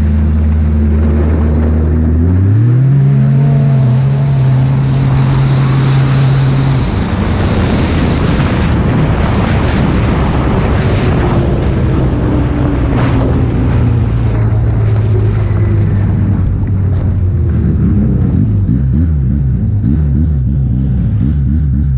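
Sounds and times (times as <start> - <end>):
wind buffeting microphone: 0.0 - 21.2
other snowmobiles running: 0.0 - 21.9
snowmobile engine running hard: 0.0 - 21.9.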